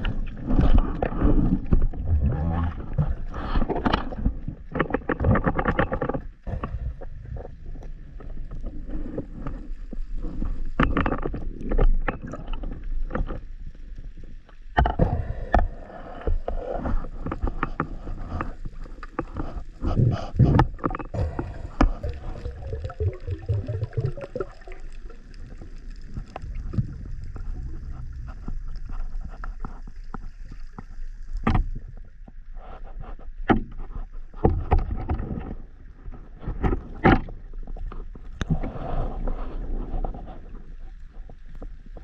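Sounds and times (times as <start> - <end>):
sea water sloshing and splashing: 0.0 - 42.0.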